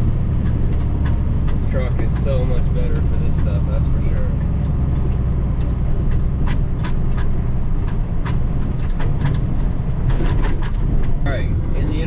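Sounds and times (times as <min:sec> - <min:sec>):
diesel truck engine running: 0:00.0 - 0:12.0
sharp rattles or knocks: 0:00.0 - 0:12.0.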